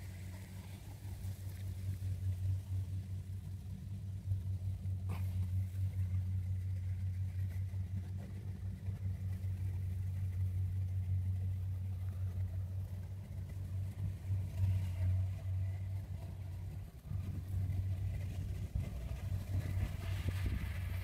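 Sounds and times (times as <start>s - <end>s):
combine harvester engine hum: 0.0s - 21.0s.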